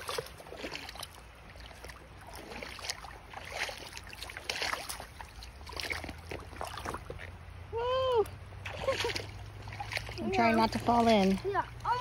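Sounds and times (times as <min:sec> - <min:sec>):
feet wading and splashing: 0:00.0 - 0:12.0
flowing stream rushing: 0:00.0 - 0:12.0.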